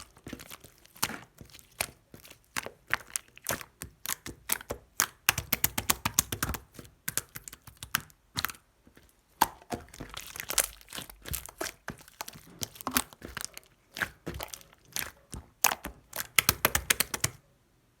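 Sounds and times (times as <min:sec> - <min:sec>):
slime clicking and popping: 0:00.0 - 0:08.6, 0:09.3 - 0:17.4.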